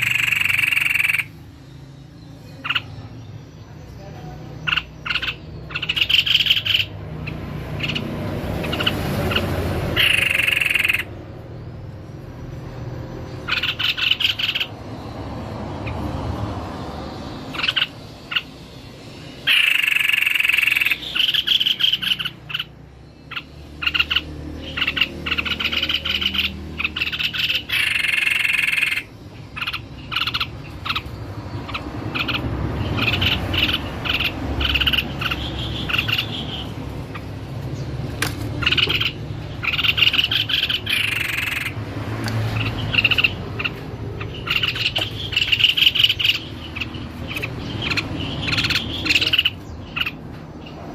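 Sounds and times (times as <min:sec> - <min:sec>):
bird singing chattering notes: 0:00.0 - 0:50.9.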